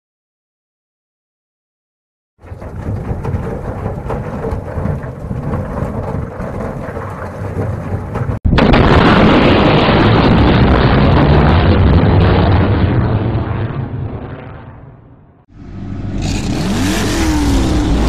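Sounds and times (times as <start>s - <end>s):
deep thunder-like rumbling: 2.4s - 18.0s.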